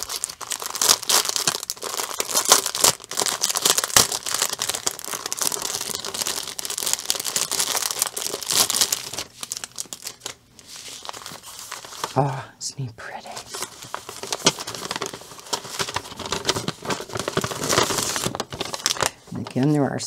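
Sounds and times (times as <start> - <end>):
plastic bag crinkling: 0.0 - 12.3, 13.4 - 20.0.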